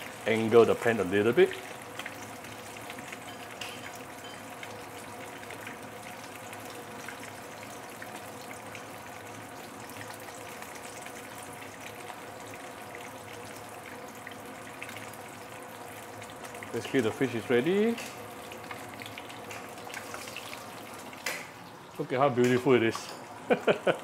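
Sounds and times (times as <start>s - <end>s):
hot oil sizzling and crackling: 0.0s - 24.0s.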